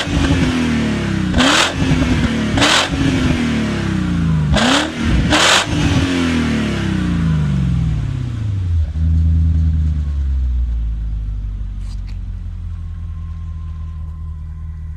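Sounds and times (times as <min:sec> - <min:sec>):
car engine revving and idling: 0:00.0 - 0:14.9.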